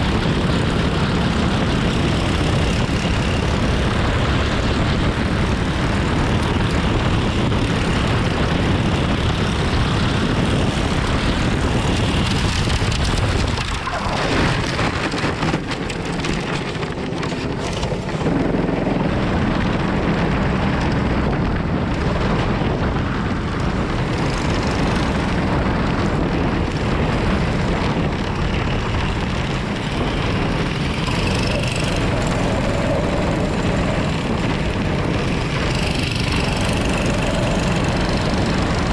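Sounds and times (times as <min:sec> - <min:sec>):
go-kart engine racing: 0:00.0 - 0:38.9.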